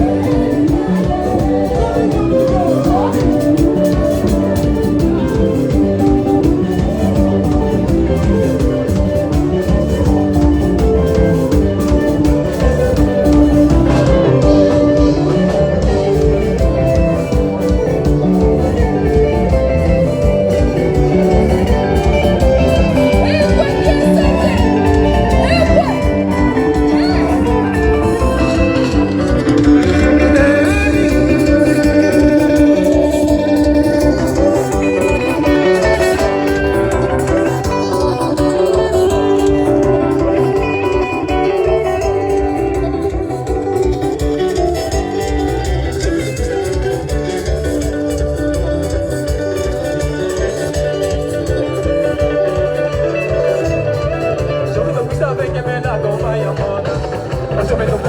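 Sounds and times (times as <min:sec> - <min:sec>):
live band dance music: 0:00.0 - 0:58.0.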